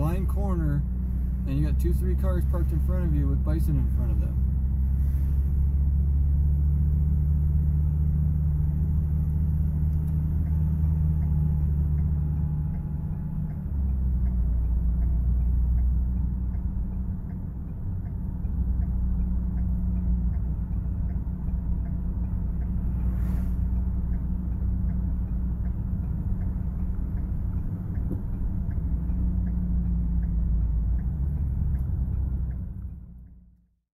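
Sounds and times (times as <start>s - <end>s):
vehicle engine and road rumble: 0.0s - 33.8s.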